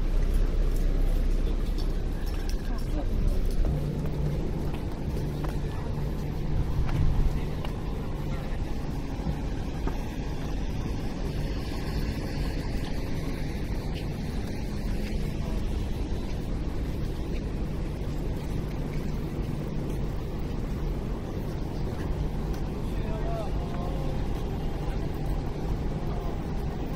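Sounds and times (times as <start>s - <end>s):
city street rumble: 0.0s - 26.9s
faint background hubbub: 0.0s - 26.9s.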